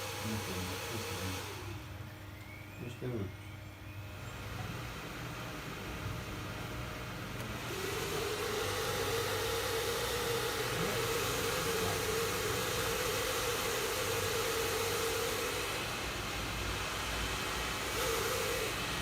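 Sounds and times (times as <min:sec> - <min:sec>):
computer fans hissing: 0:00.0 - 0:19.0
mid-pitched hum: 0:00.0 - 0:19.0.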